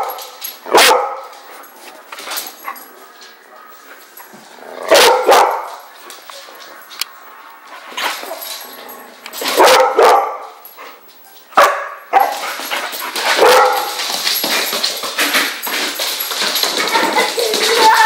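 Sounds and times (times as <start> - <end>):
dogs barking in play: 0.0 - 18.0.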